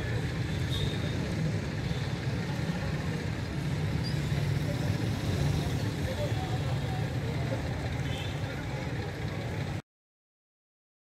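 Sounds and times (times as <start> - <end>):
distant traffic rumble: 0.0 - 9.8.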